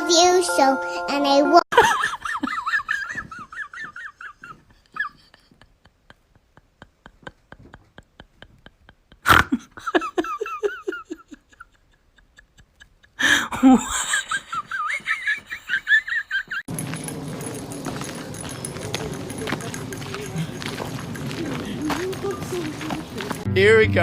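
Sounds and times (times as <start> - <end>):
person laughing: 1.7 - 16.7, 18.5 - 23.5.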